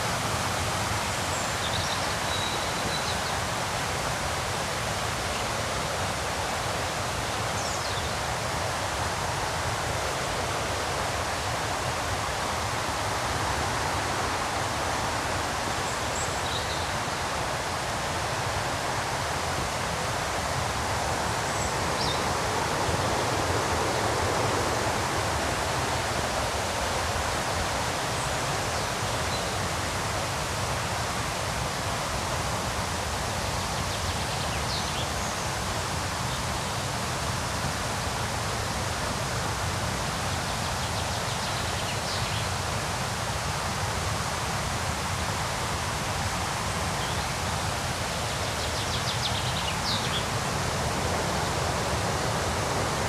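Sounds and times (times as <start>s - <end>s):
river rapids rushing: 0.0s - 53.0s.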